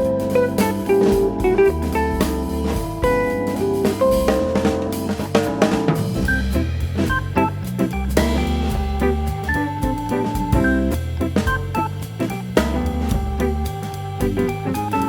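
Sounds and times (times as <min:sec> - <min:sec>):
band playing: 0:00.0 - 0:15.0.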